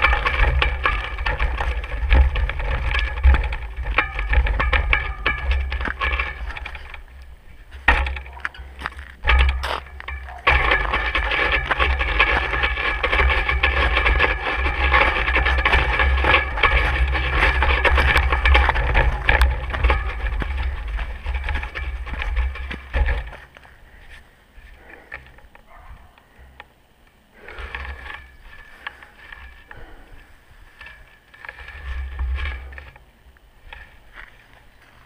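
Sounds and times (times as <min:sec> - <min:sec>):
bike tyres rolling over ice: 0:00.0 - 0:25.8, 0:27.3 - 0:35.0.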